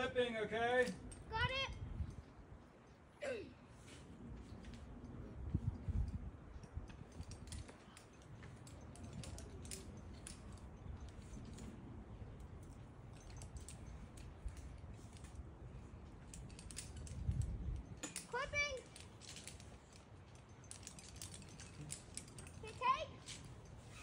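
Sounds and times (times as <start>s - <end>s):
climbing gear clicks and rattles: 0.7s - 2.3s, 4.5s - 24.0s.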